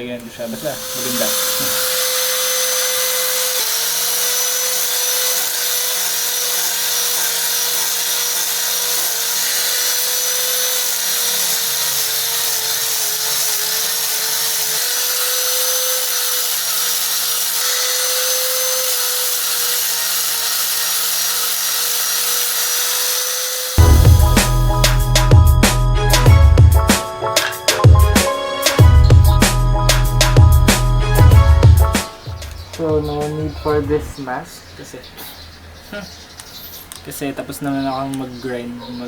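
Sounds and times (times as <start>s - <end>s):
electric sander on wood: 0.0s - 34.0s.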